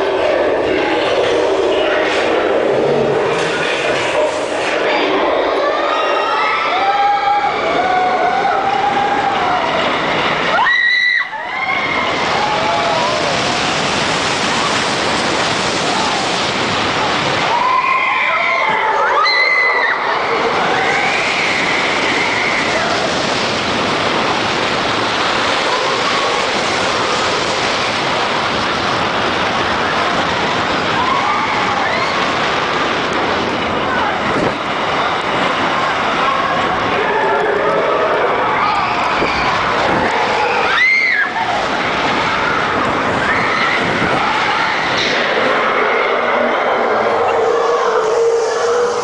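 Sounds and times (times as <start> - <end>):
roller coaster train rumbling: 0.0 - 49.0
wind rushing over microphone: 0.0 - 49.0.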